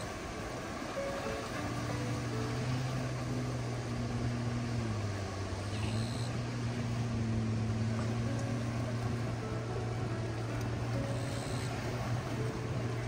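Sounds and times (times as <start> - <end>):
motor humming: 1.8 - 13.0.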